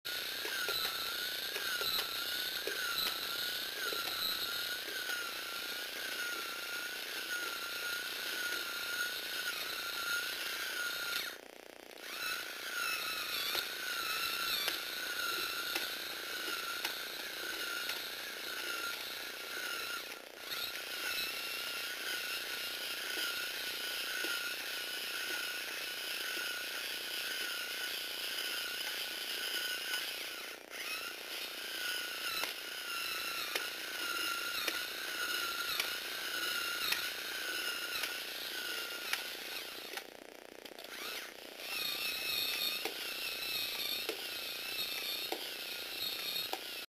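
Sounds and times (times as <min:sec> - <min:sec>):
toy robot motor whining: 0:00.1 - 0:46.9.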